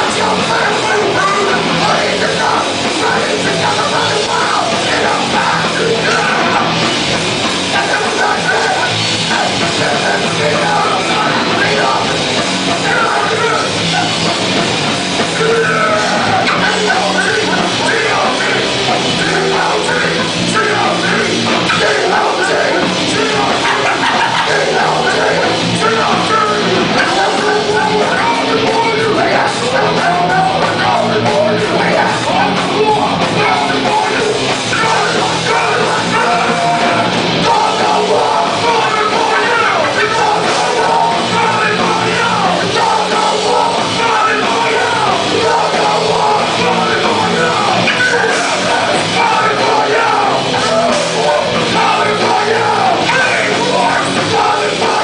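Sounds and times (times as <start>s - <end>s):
distorted guitar: 0.0s - 55.0s
drums: 0.0s - 55.0s
shouted vocals: 0.0s - 55.0s.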